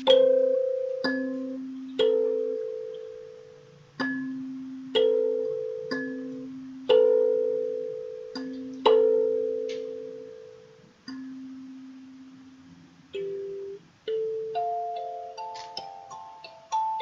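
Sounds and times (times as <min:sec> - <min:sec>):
kalimba notes: 0:00.0 - 0:17.0.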